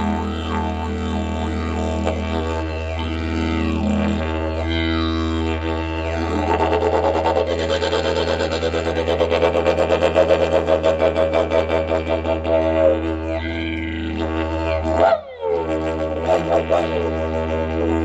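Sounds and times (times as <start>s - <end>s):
low pulsing drone: 0.0s - 18.0s.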